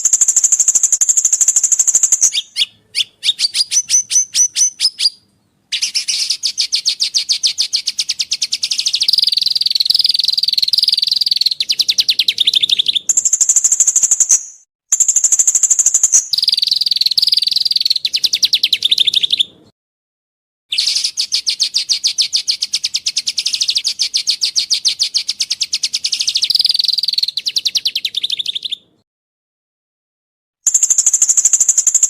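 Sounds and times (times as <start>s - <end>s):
songbird singing fast trills: 0.0s - 19.6s, 20.7s - 28.9s, 30.7s - 32.0s.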